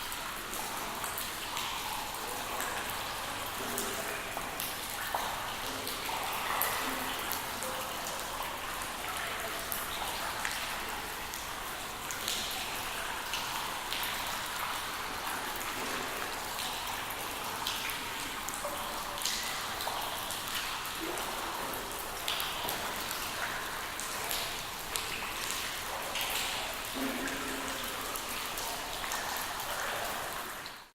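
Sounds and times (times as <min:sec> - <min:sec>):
raindrops pattering: 0:00.0 - 0:30.9.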